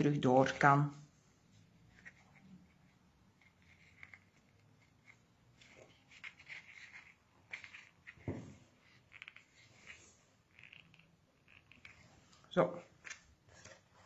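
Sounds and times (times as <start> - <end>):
ribbon rustling: 1.1 - 14.0.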